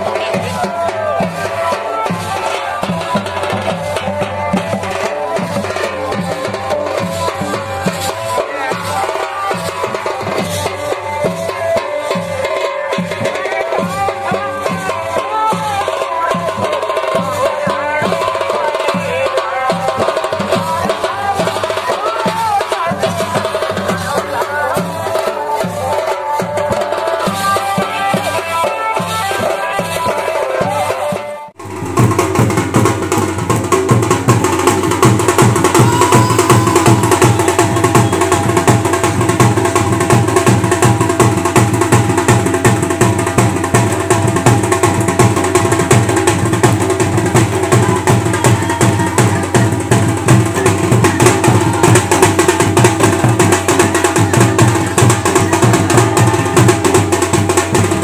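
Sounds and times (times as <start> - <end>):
drumming: 0.0 - 58.0
melody over drums: 0.0 - 58.0.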